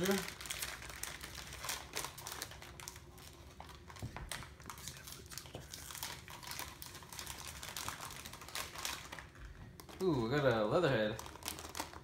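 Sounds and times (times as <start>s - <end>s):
foil packs crinkling: 0.0s - 12.0s.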